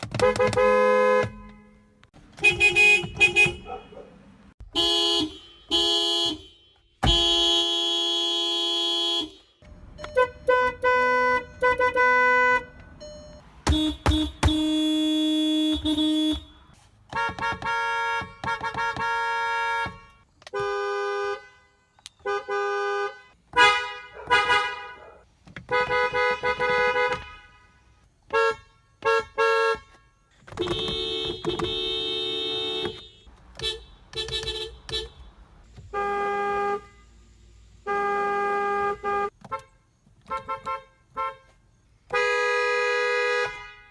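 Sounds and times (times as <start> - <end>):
car horns honking: 0.0 - 43.9.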